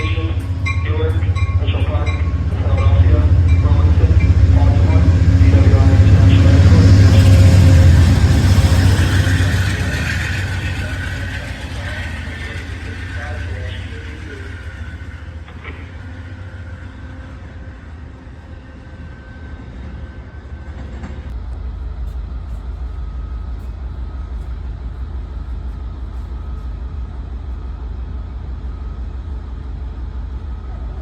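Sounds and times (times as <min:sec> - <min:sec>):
train rumbling by: 0:00.0 - 0:31.0.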